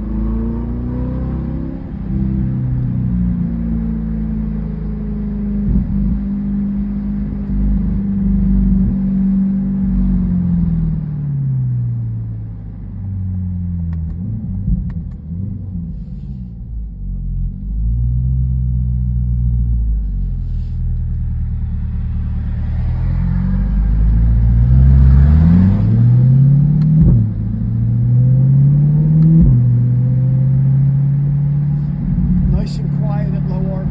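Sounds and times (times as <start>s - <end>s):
car engine revving while driving: 0.0s - 33.9s.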